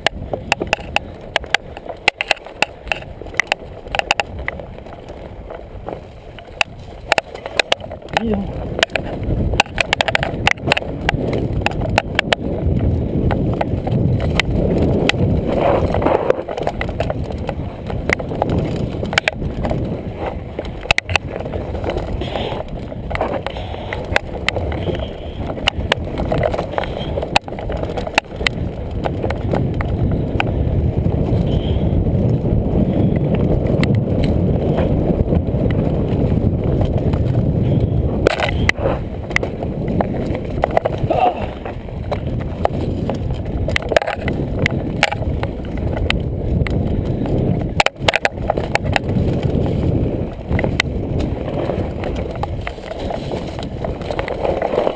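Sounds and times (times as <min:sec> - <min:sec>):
bike rattling over stones: 0:00.0 - 0:54.9
tyres rumbling on dirt: 0:00.0 - 0:54.9.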